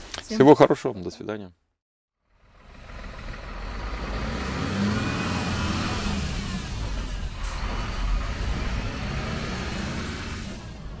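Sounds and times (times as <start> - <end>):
diesel truck engine rumble: 2.2 - 11.0
road and wind noise: 2.2 - 11.0.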